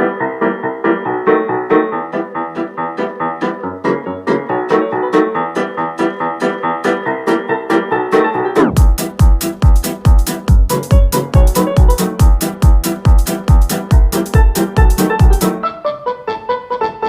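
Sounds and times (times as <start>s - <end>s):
keyboard tune over light beat: 0.0s - 17.0s.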